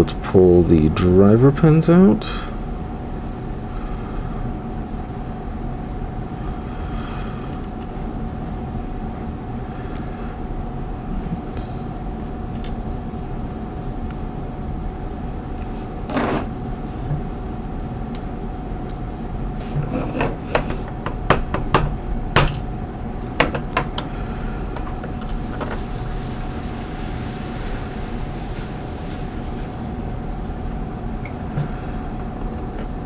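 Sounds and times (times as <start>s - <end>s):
faint constant whine: 0.0s - 33.0s
steady background hum: 0.0s - 33.0s.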